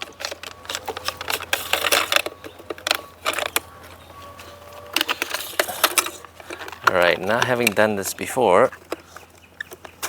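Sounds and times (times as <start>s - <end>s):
plastic parts clicking and rattling: 0.0s - 10.0s.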